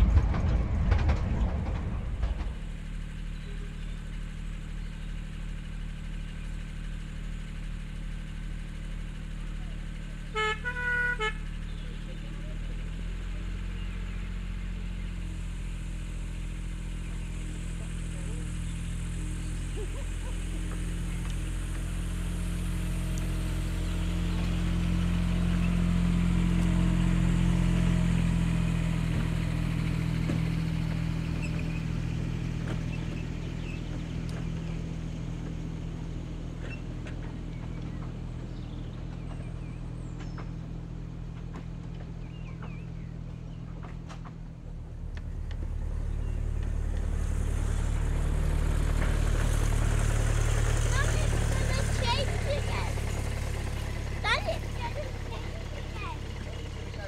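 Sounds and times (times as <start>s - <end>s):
wheels clicking on track: 0.0s - 5.6s, 11.4s - 57.0s
small diesel locomotive engine: 0.0s - 57.0s.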